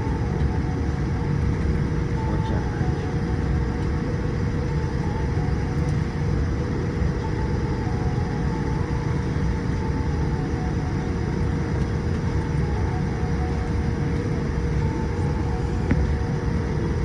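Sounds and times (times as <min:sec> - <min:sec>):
aircraft cabin rumble: 0:00.0 - 0:17.0
thin steady whine: 0:00.0 - 0:17.0.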